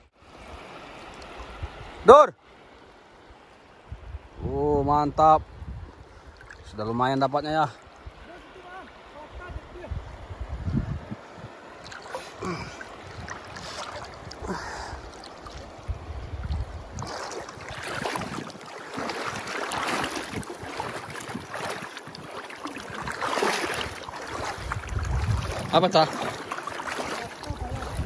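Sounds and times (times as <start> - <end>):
river water rushing and splashing: 0.0 - 28.0
wind rumble on microphone: 1.4 - 2.0, 3.8 - 7.0, 9.3 - 28.0.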